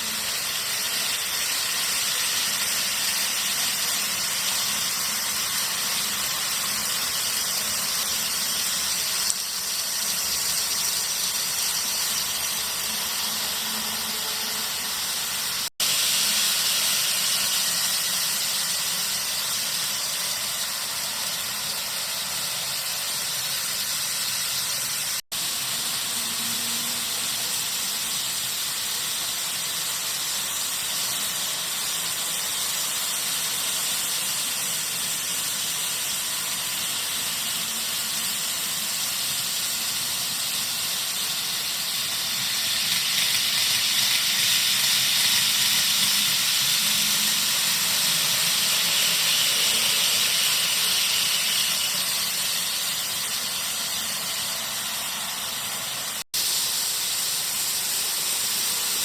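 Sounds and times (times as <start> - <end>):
high-pitched whine: 0.0 - 32.4, 34.4 - 59.0
model train running on track: 0.0 - 59.0.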